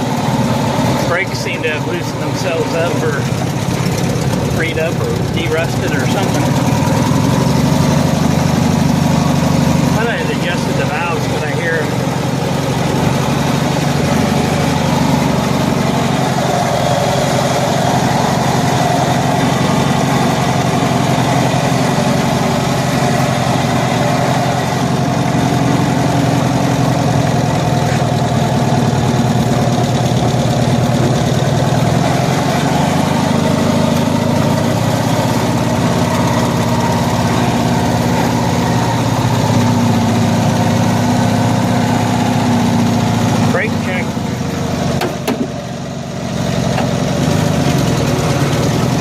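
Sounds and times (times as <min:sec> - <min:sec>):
engine idling: 0:00.0 - 0:49.0.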